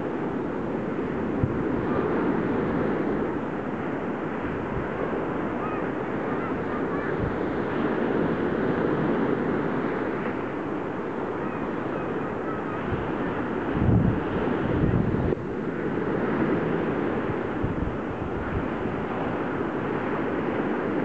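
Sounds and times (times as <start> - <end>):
waves breaking on a beach: 0.0 - 21.0
wind buffeting the microphone: 0.0 - 21.0.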